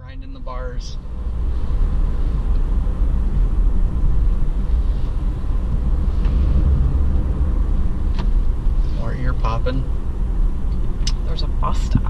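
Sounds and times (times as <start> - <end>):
car engine rumble: 0.0 - 12.0
tyre road noise: 0.0 - 12.0.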